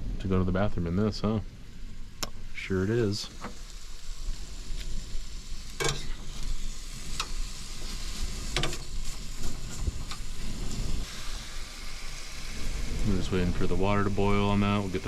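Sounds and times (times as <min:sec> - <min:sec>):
rain hissing on camper roof: 0:00.2 - 0:15.0.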